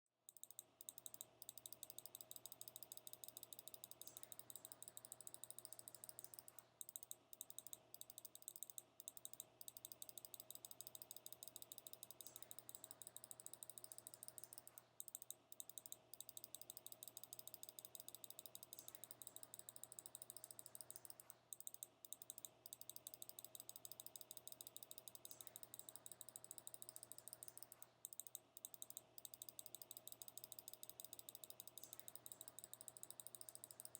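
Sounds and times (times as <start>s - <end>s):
faint steady hum: 0.3s - 33.9s
fast sharp clicking: 0.3s - 33.9s.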